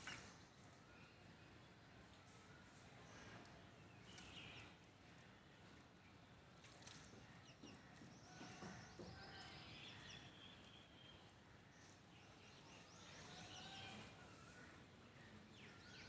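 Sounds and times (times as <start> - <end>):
faint birds chirping: 0.0 - 16.0
outdoor background hiss: 0.0 - 16.0.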